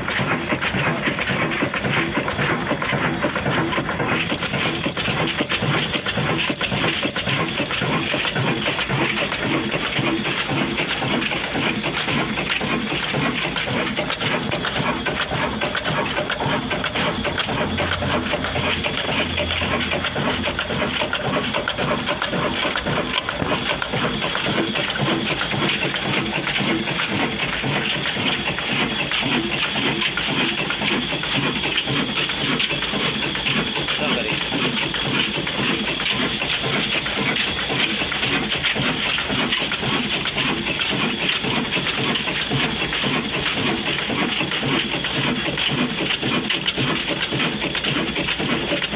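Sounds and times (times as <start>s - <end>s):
diesel engine clattering: 0.0s - 48.9s.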